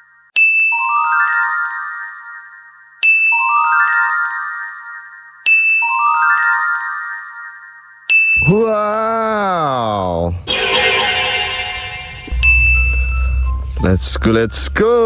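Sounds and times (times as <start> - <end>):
chime jingle: 0.4 - 8.6, 10.4 - 15.0.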